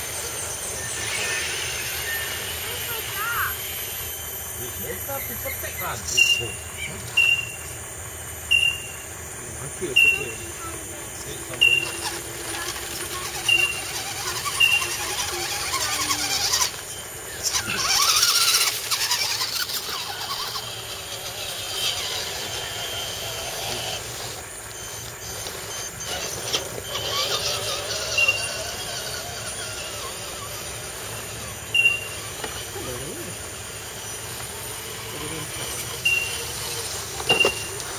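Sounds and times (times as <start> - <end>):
short high squeaks: 0.0 - 7.7, 11.5 - 24.0, 24.6 - 33.3, 34.0 - 37.9
small electric motors whining: 0.0 - 37.9.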